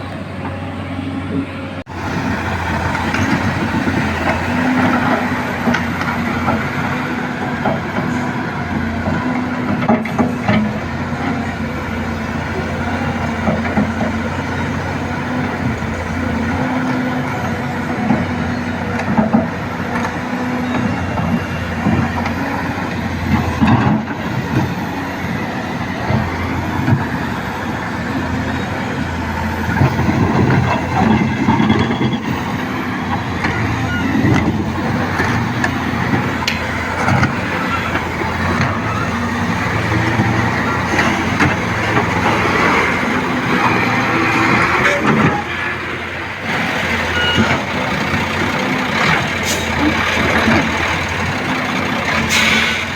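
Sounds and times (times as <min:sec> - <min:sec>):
diesel engine running under work: 0:00.0 - 0:52.9.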